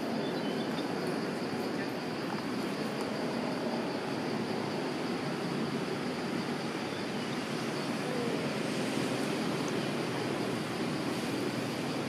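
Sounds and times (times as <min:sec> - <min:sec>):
outdoor background rush: 0:00.0 - 0:12.0.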